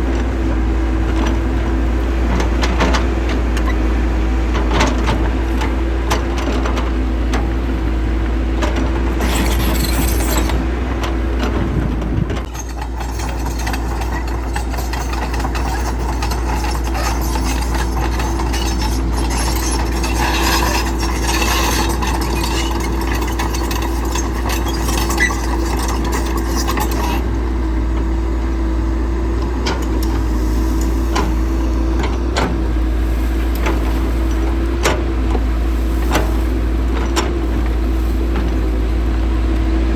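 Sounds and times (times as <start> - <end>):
diesel engine running: 0.0 - 39.9
rattles and clanks: 1.0 - 3.9, 4.5 - 7.8, 8.6 - 27.5, 29.4 - 39.9.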